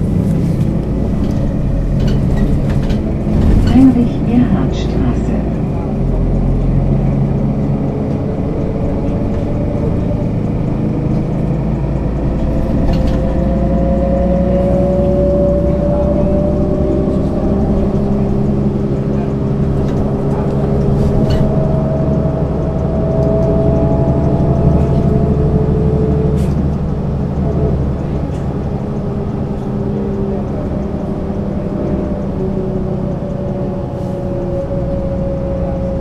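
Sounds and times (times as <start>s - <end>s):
bus diesel engine running: 0.0s - 36.0s.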